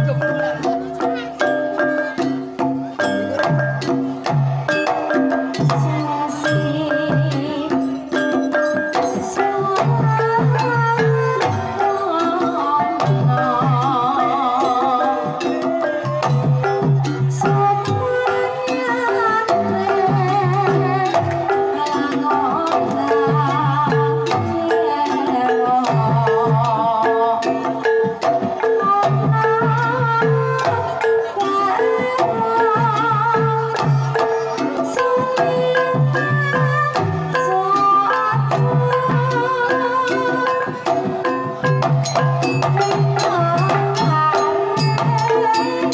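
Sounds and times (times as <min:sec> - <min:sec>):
hand drum pattern: 0:00.0 - 0:45.9
metallophones and gongs: 0:00.0 - 0:45.9
woman singing ornamented melody: 0:04.7 - 0:41.6, 0:42.3 - 0:45.9.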